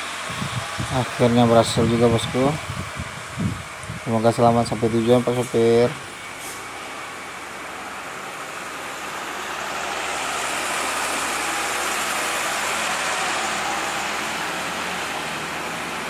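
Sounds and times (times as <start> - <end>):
diesel truck engine passing: 0.0 - 16.0
tyres hissing on wet road: 0.0 - 16.0.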